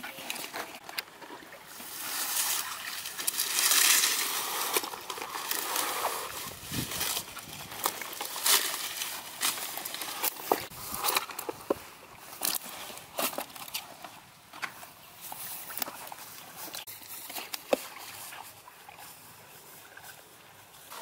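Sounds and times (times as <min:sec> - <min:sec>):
grass and leaves rustling: 0:00.0 - 0:21.0
water splashing and sloshing: 0:00.0 - 0:21.0.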